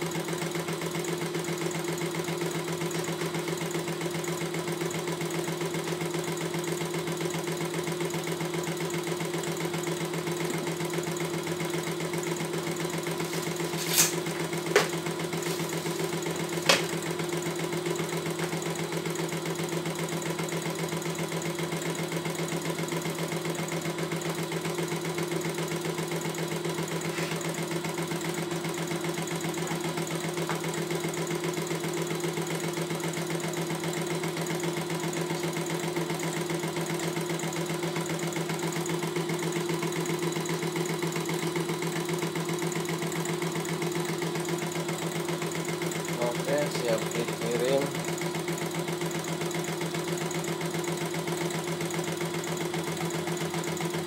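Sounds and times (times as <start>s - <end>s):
embroidery machine stitching: 0.0s - 54.0s.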